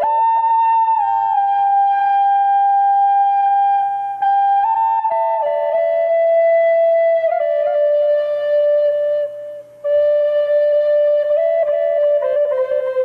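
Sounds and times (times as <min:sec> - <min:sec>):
solo flute melody: 0:00.0 - 0:13.0.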